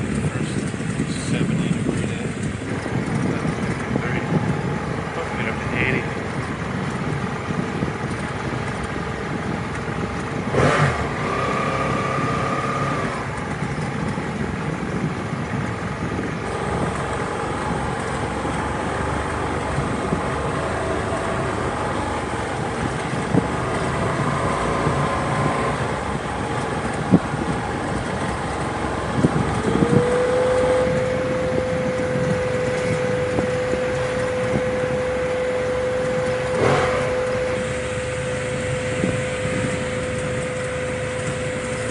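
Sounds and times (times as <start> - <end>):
motorcycle engine running: 0.0 - 41.9
wind rush: 0.0 - 41.9.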